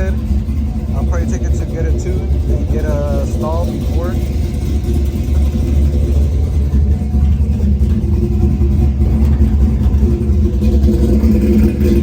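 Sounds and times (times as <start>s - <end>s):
truck engine idling with lope: 0.0s - 12.0s.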